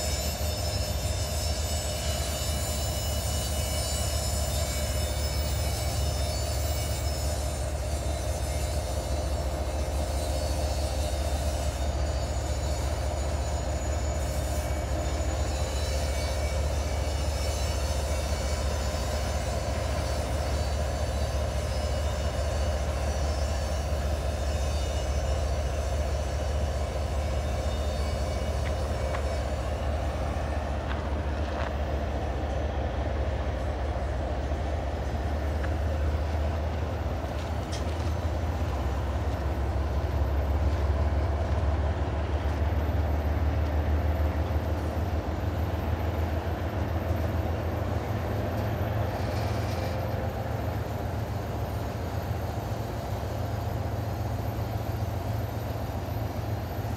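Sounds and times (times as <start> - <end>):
freight train rumbling by: 0.0 - 56.9.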